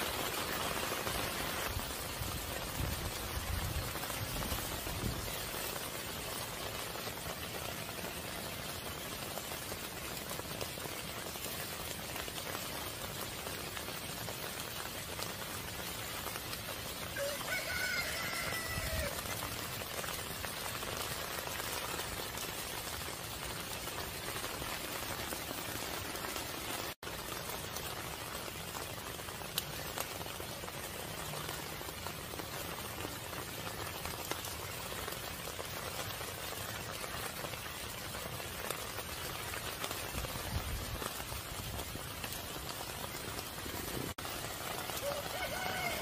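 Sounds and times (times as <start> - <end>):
rain on leaves and plastic: 0.0 - 46.0
raindrop ticks: 0.0 - 46.0.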